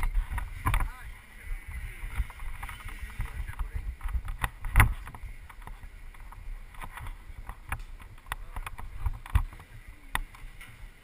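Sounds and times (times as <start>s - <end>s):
wind buffeting camera case: 0.0s - 11.0s.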